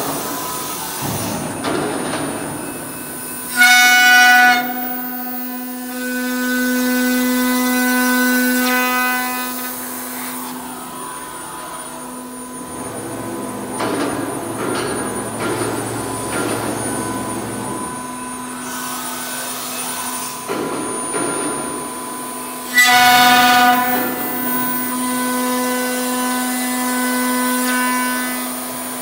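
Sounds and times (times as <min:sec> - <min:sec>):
machine spindle whining: 0:00.0 - 0:25.1.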